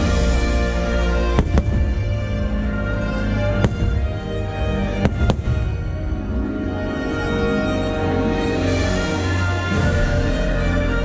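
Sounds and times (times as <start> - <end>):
soundtrack music: 0.0 - 11.0.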